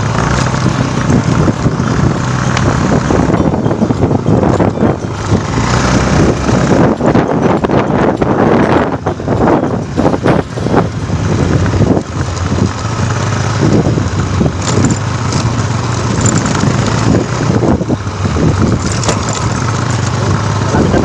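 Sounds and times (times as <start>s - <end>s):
vehicle engine running: 0.0s - 21.0s
wind noise: 0.0s - 21.0s.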